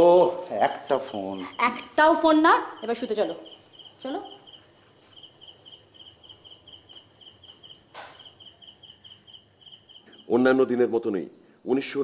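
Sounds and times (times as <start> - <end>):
crickets chirping: 0.0 - 11.6.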